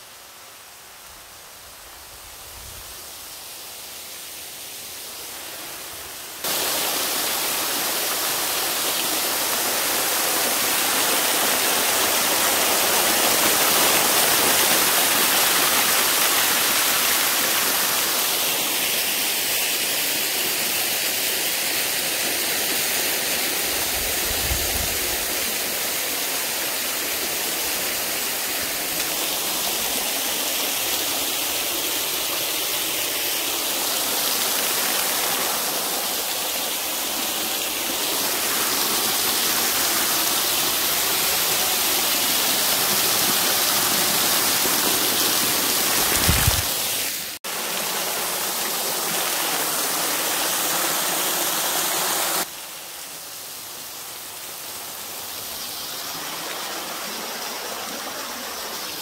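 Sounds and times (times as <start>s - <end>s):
small waterfall splashing into pool: 6.4s - 24.3s, 25.0s - 53.3s, 54.4s - 59.0s.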